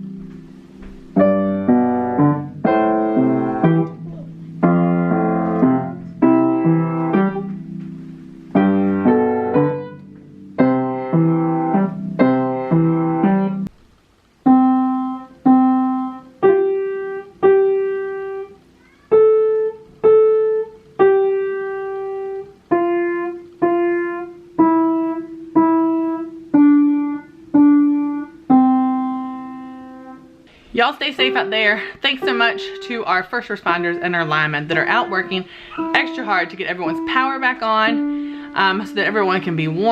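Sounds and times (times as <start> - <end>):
piano chords: 0.0 - 13.8, 14.4 - 39.9
slow piano melody: 0.0 - 13.8, 14.4 - 30.5, 31.1 - 39.9.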